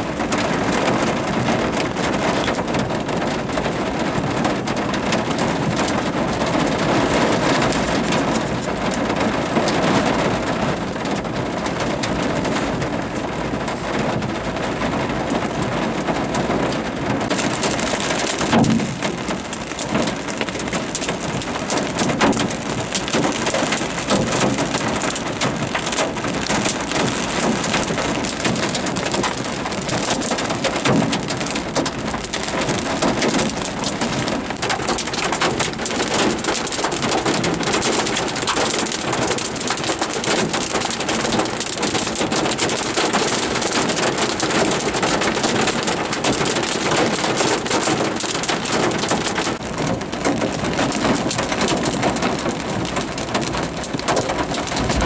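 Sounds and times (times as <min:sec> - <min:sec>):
heavy rain on vehicle roof: 0:00.0 - 0:55.0.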